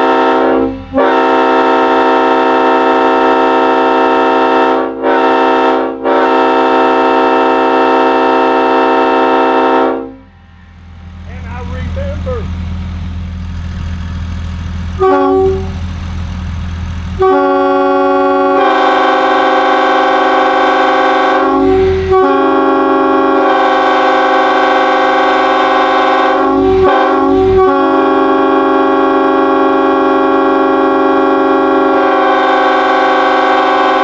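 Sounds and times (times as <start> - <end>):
locomotive air horn chord: 0.0 - 10.7, 15.0 - 15.9, 17.2 - 34.0.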